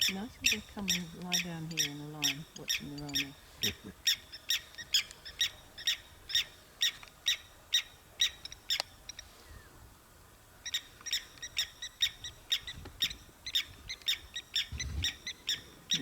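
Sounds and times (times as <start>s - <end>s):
bird calling in sharp notes: 0.0s - 9.2s, 10.6s - 16.0s.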